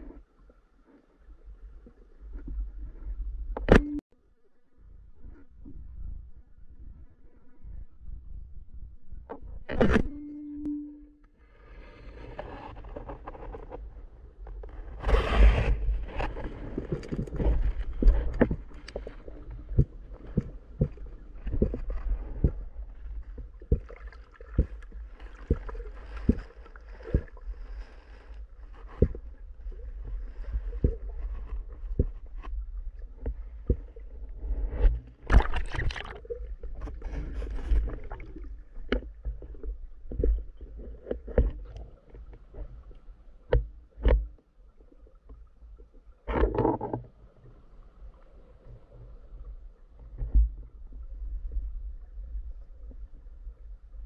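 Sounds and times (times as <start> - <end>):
low underwater rumble: 0.0 - 54.0.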